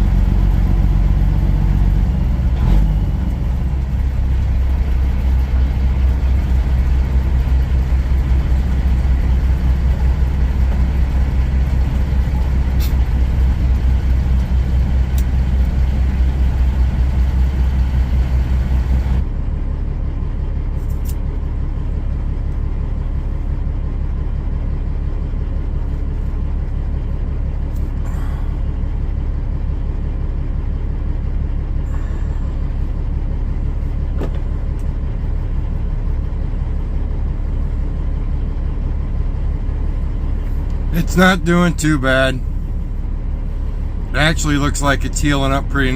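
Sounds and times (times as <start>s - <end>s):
diesel truck engine humming: 0.0s - 45.9s.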